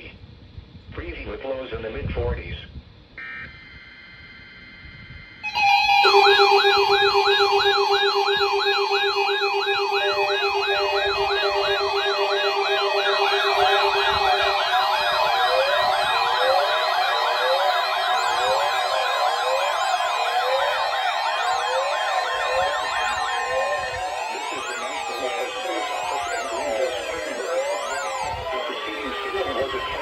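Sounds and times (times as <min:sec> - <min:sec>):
weather radio alarm siren: 0:03.2 - 0:30.0
steady tone: 0:03.5 - 0:30.0.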